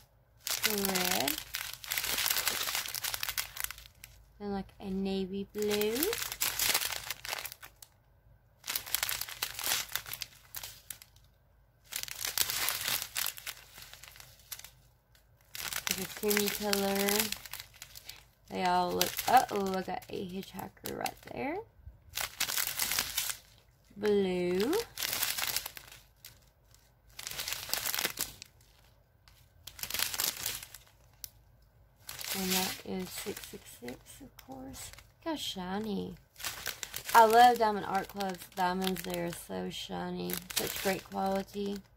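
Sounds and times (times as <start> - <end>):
plastic bags crinkling: 0.0 - 4.4, 5.1 - 8.0, 8.6 - 41.9.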